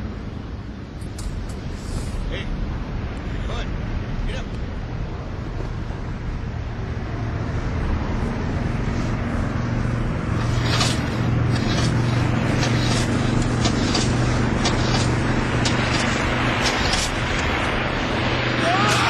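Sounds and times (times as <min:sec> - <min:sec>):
propeller engines droning: 0:00.0 - 0:19.0.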